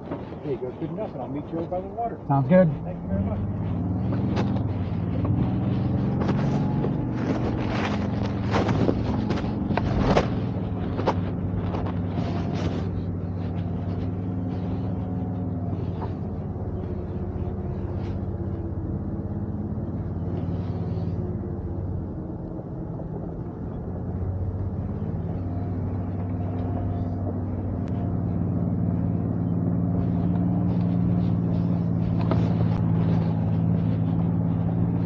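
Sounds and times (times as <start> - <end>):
suv engine running low revs: 0.0 - 35.0.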